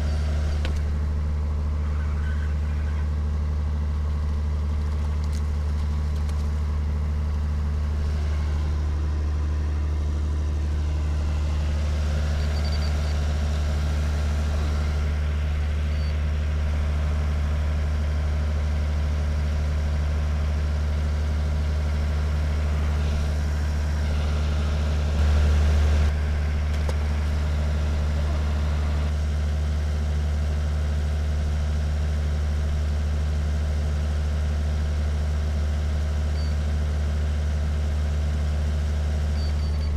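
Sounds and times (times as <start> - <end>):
low mechanical hum: 0.0 - 39.9.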